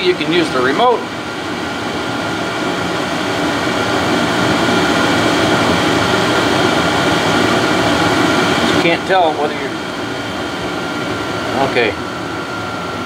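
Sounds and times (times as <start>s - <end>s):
air heater blower fan humming: 0.0s - 13.0s.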